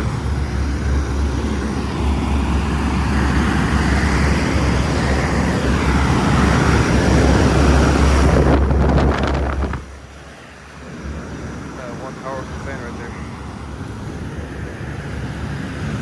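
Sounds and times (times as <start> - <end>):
condensing unit fan rushing: 0.0 - 16.0
wind buffeting microphone: 0.0 - 16.0.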